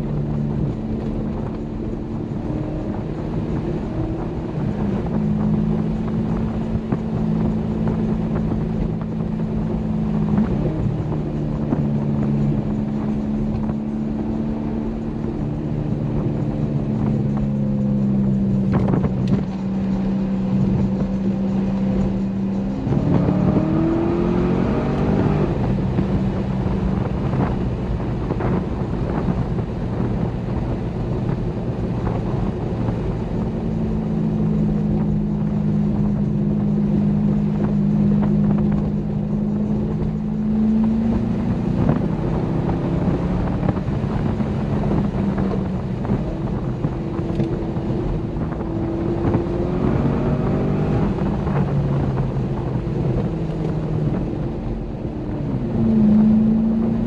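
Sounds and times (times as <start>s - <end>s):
car engine droning: 0.0s - 57.0s
road and wind noise: 0.0s - 57.0s.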